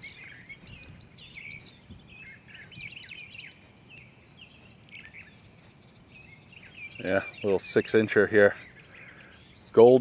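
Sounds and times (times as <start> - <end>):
birds chirping and twittering: 0.0 - 10.0.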